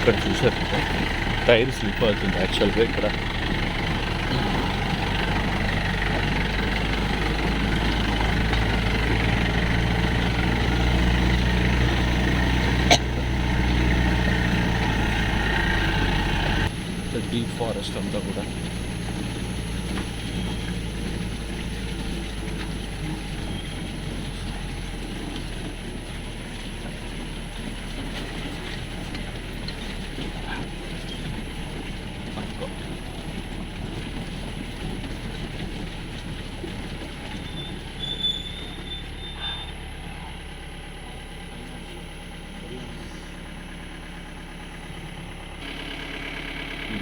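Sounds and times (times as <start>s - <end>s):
low engine rumble: 0.0s - 47.0s
vehicle body rattling on bumps: 0.0s - 47.0s.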